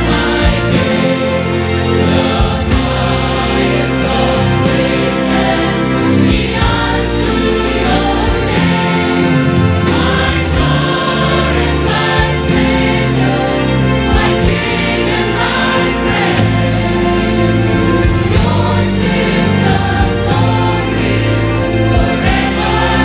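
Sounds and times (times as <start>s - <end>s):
church choir singing: 0.0s - 23.0s
low sustained instrumental accompaniment: 0.0s - 23.0s.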